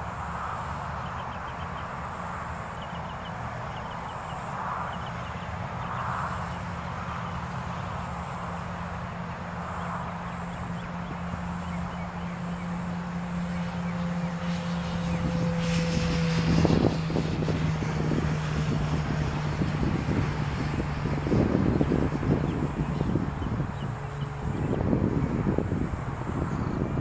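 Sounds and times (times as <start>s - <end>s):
open-air background noise: 0.0s - 27.0s
vehicle engine hum: 0.0s - 27.0s.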